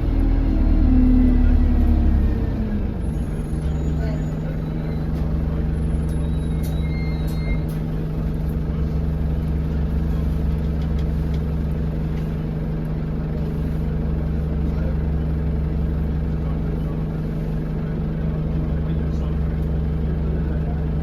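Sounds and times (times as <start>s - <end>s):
bus diesel engine droning: 0.0s - 21.0s.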